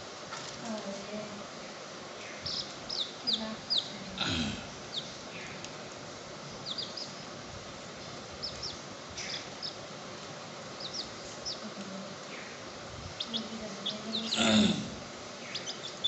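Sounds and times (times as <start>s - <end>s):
low hiss: 0.0s - 16.0s
baby chicks peeping: 0.8s - 16.0s.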